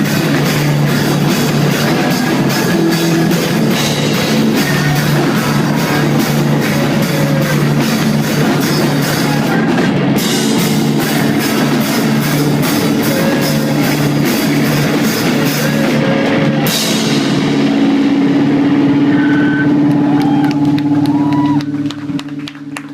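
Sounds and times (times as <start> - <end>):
drum kit with crashing cymbals: 0.0 - 20.2
distorted electric guitar: 0.0 - 22.9
loud live rock band: 0.0 - 22.9.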